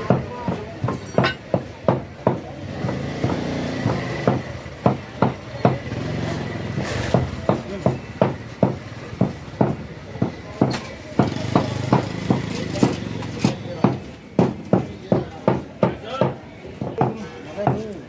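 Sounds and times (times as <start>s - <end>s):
cleaver chopping meat on wood: 0.0s - 6.0s, 7.0s - 17.8s.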